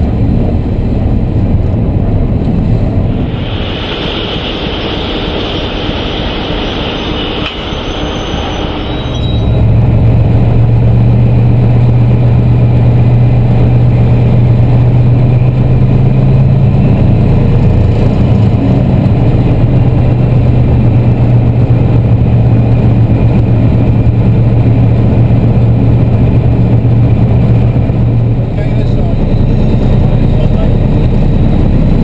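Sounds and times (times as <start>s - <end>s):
diesel engine low drone: 0.0s - 32.0s.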